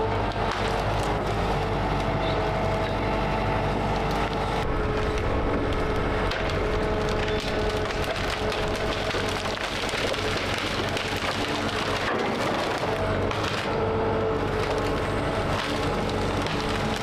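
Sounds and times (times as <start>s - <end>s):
excavator engine running: 0.0s - 17.0s
wood cracking and splintering: 0.0s - 17.0s.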